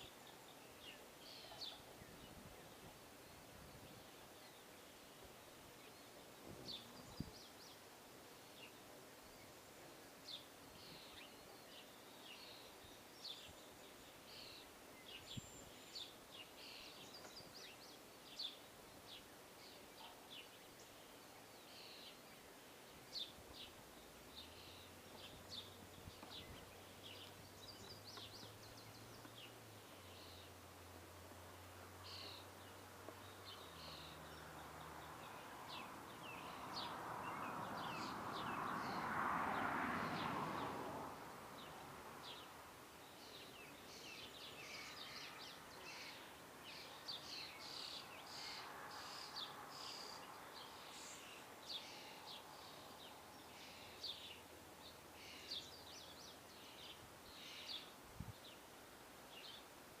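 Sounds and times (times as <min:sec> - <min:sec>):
small birds chirping: 0:00.0 - 0:40.9, 0:41.5 - 1:00.0.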